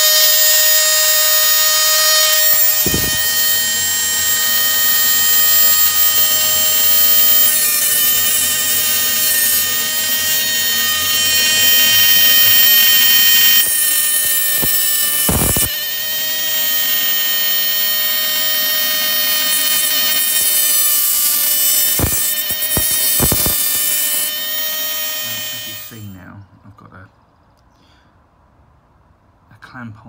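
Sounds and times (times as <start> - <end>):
disc grinding through steel: 0.0 - 26.2
rotary tool high-pitched whine: 0.0 - 26.2.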